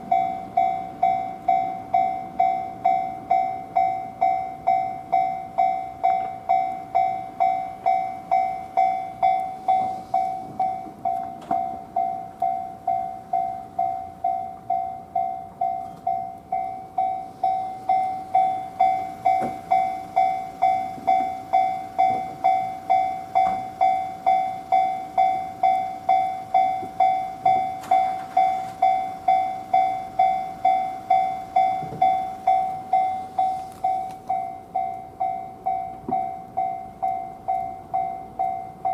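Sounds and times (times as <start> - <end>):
level crossing alarm bell: 0.0 - 38.9.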